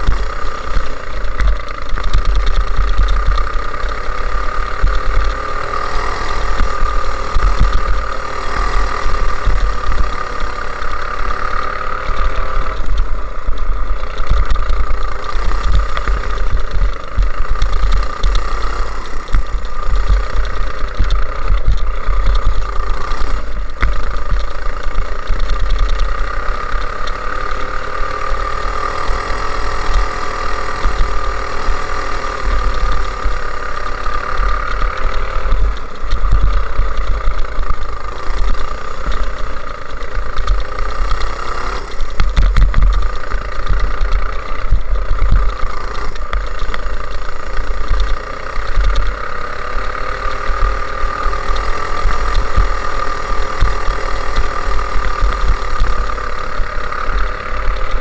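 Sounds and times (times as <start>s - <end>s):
go-kart engine running flat out: 0.0s - 58.0s
heavy uneven low rumble: 0.0s - 58.0s.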